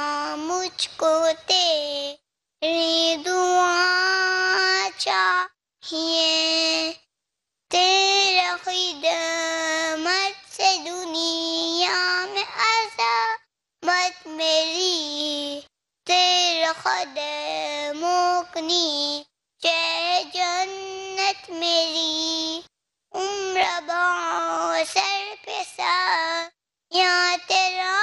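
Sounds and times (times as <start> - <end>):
boy singing solo: 0.0 - 7.1, 7.7 - 28.0.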